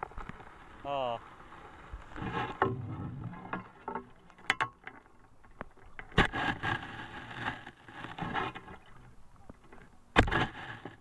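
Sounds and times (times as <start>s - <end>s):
water sloshing from wading: 0.0s - 11.0s.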